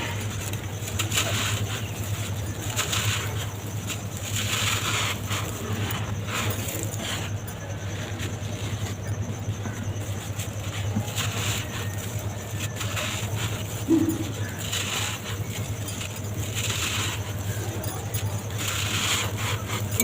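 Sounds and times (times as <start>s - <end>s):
gritty crackling and crunching: 0.0s - 20.0s
low steady hum: 0.0s - 20.0s.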